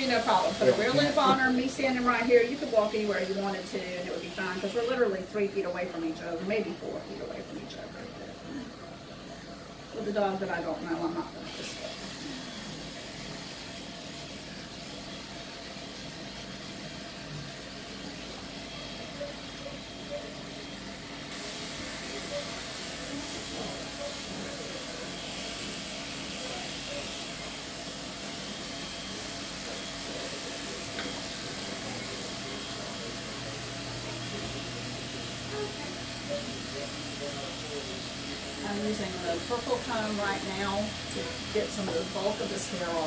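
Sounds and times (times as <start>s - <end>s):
electric pet clippers running: 0.0s - 8.7s, 10.0s - 43.0s.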